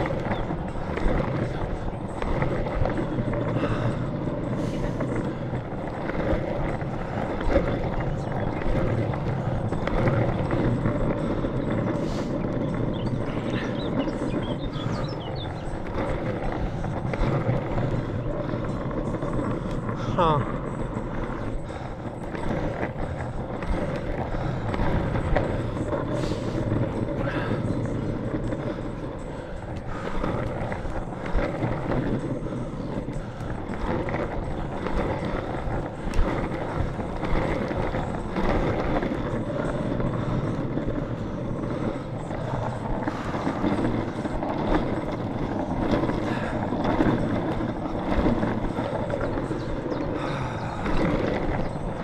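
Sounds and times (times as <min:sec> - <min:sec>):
longboard wheels rolling on pavement: 0:00.0 - 0:52.0.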